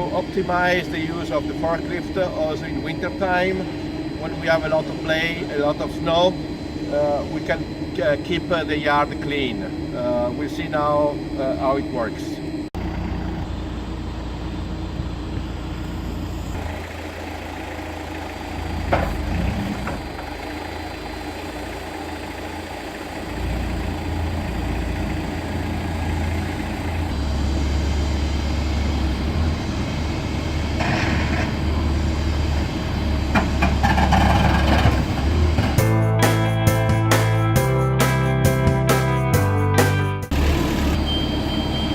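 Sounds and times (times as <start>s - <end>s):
forklift engine running: 0.0s - 39.3s, 40.2s - 41.9s.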